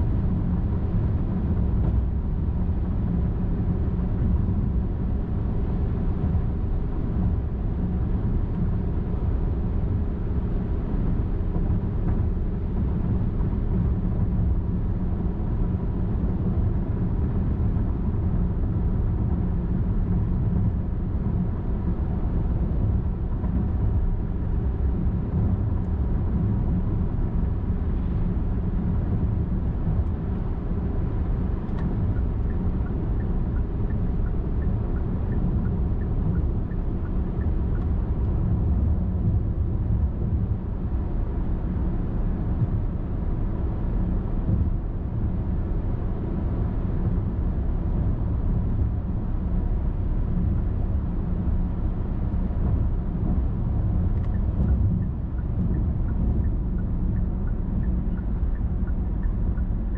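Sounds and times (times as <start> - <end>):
car driving at highway speed: 0.0 - 59.9.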